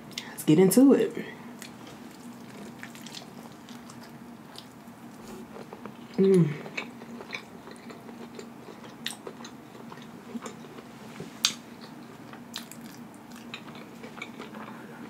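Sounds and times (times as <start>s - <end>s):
person chewing with wet smacks: 1.6s - 14.8s.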